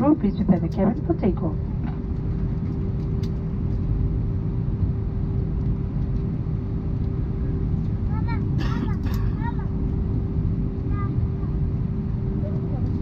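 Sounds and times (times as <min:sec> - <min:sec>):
aircraft engines rumbling: 0:00.0 - 0:13.0.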